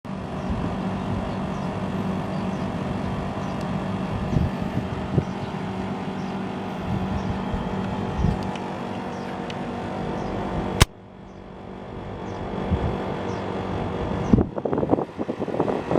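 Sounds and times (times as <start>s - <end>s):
air conditioner unit humming: 0.1s - 15.9s.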